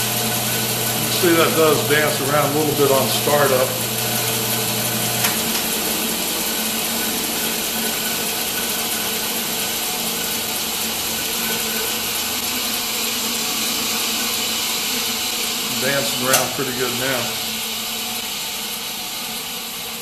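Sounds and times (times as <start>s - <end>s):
band saw whirring: 0.0s - 20.0s.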